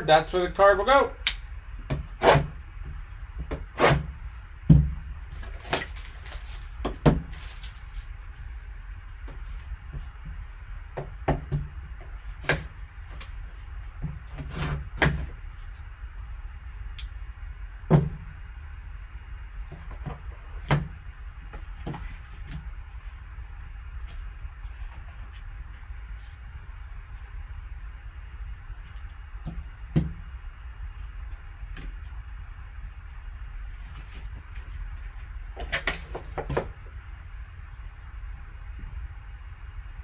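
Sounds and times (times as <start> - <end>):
low hum: 0.0 - 40.0.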